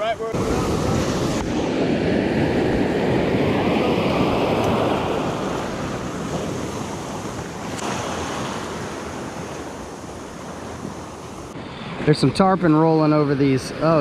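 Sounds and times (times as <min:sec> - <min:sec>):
ocean surf washing: 0:00.0 - 0:14.0
wind buffeting microphone: 0:00.0 - 0:14.0.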